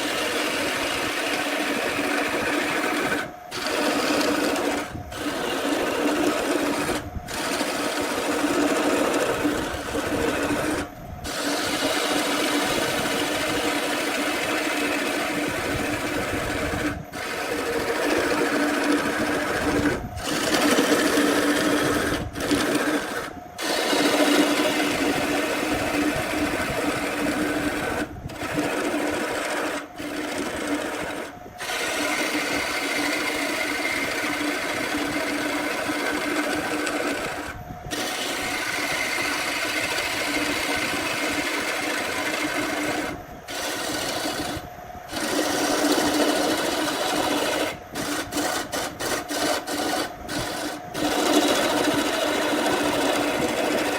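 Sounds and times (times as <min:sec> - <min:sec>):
power tool motor on wood: 0:00.0 - 0:53.9.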